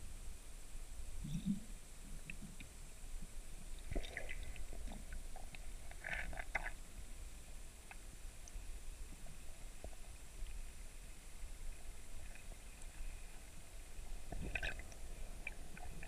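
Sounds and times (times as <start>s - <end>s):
muffled underwater rumble: 1.1s - 16.0s
small underwater clicks and crackles: 1.2s - 16.0s.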